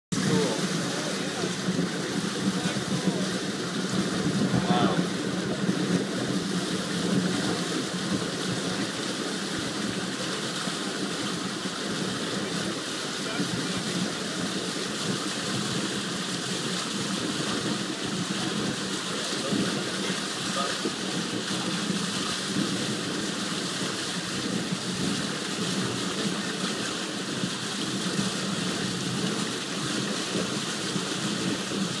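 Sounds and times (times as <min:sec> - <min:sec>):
water rushing down a drain: 0:00.1 - 0:32.0.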